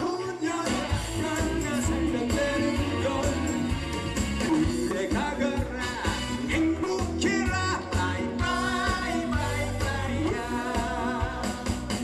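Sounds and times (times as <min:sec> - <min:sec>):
man singing into a microphone: 0:00.0 - 0:03.8, 0:04.4 - 0:11.3
upbeat backing track: 0:00.0 - 0:12.0.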